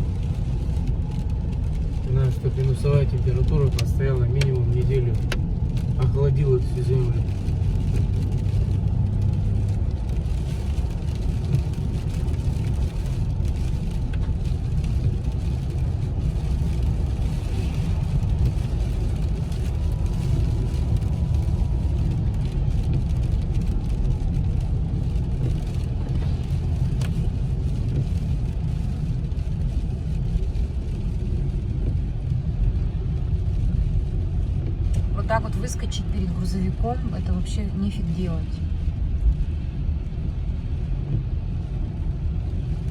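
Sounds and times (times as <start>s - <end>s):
car cabin road rumble: 0.0s - 42.9s.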